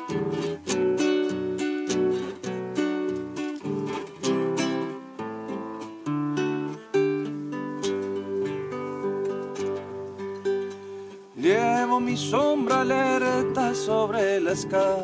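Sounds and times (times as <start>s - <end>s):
acoustic guitar strumming and plucking: 0.0s - 15.0s.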